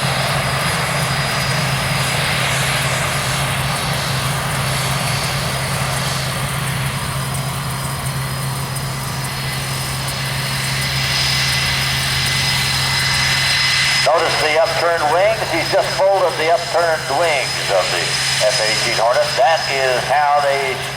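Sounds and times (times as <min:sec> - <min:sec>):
jet engines idling with whine: 0:00.0 - 0:20.9.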